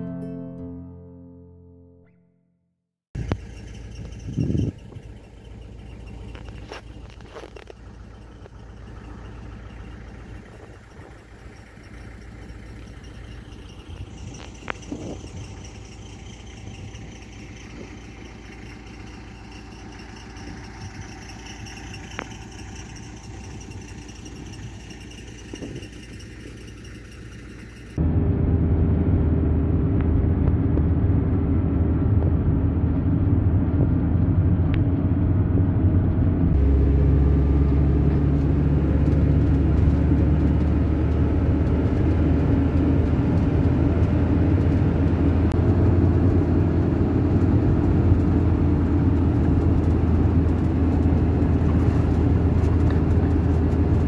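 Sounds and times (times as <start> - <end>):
vehicle engine and road rumble: 3.1 - 54.0
low hum: 3.2 - 54.0.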